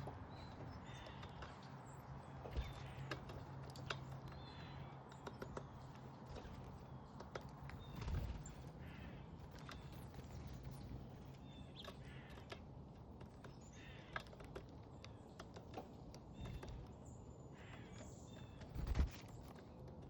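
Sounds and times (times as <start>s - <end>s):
birds chirping: 0.0s - 20.0s
birds tapping on feeder: 0.0s - 20.0s.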